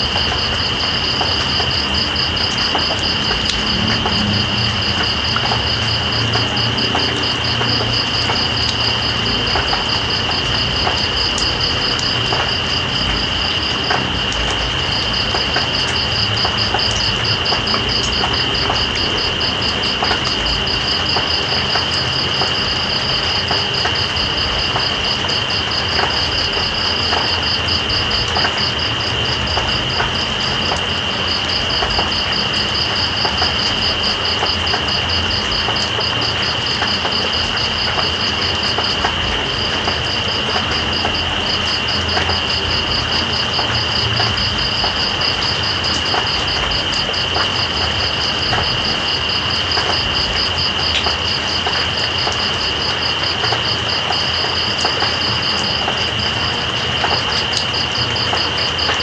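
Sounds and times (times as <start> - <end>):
dripping water: 0.0 - 59.0
steady rain: 0.0 - 59.0.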